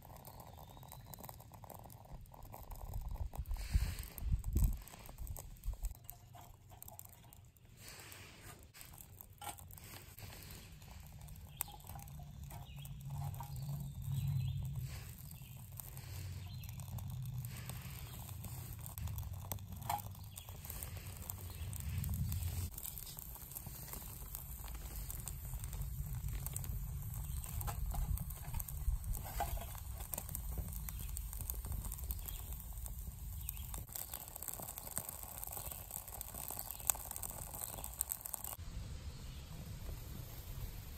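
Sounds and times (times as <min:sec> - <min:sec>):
twig fire crackling: 0:00.0 - 0:40.9.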